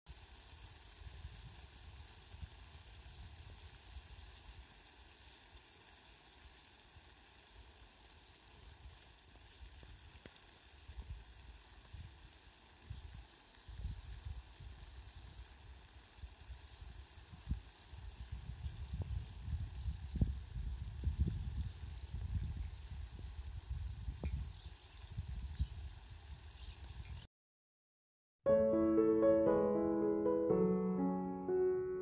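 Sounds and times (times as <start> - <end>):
water showering on plants: 0.1 - 27.3.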